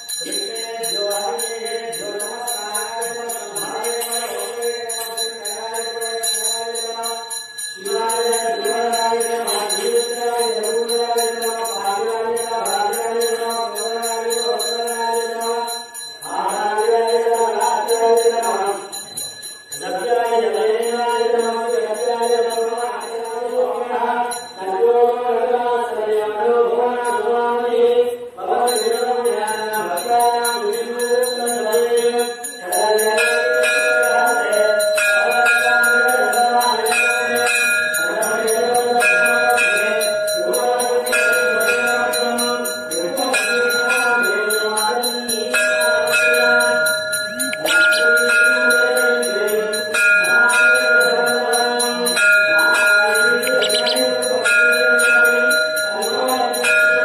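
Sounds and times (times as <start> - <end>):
bells ringing rapidly: 0.0 - 24.8, 28.7 - 57.0.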